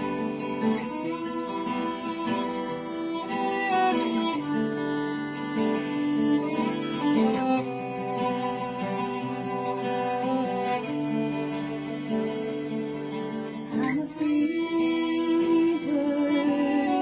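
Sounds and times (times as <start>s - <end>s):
picked acoustic guitar: 0.0s - 17.0s
violin long notes: 0.0s - 17.0s.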